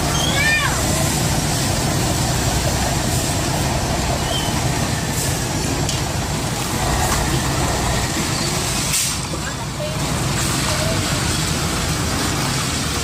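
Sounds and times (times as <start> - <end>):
passing traffic rumble: 0.0 - 13.0.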